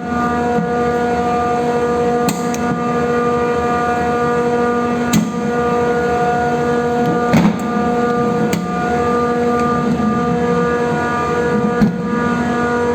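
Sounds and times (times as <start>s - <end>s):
motor hum and whine: 0.0s - 12.9s.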